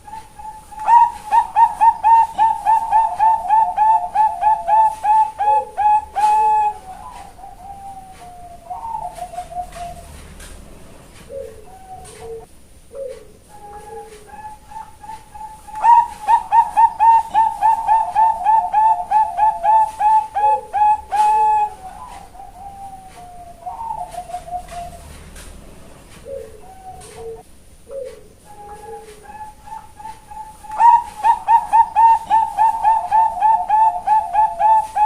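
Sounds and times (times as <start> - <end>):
dove rolling trill: 0.0 - 27.4, 28.0 - 35.0
dove cooing: 0.0 - 35.0.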